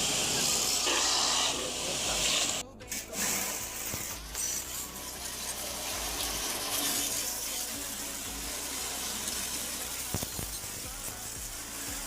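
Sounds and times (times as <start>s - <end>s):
water spraying hiss: 0.0s - 12.0s.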